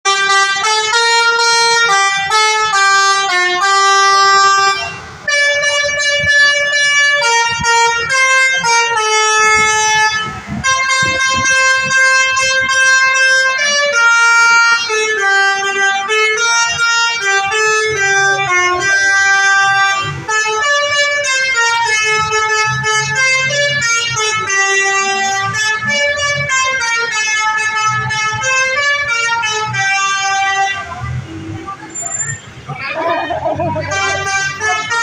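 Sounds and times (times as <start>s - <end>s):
multi-tone bus horn tune: 0.0s - 35.0s.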